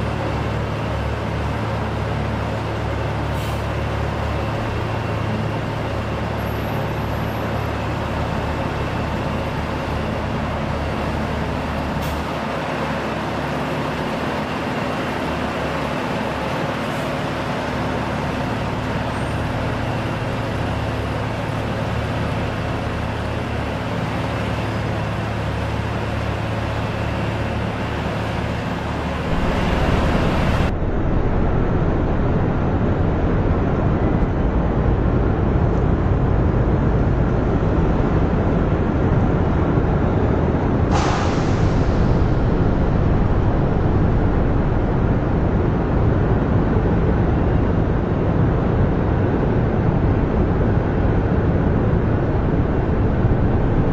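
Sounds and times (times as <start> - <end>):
road milling machine din: 0.0 - 53.9.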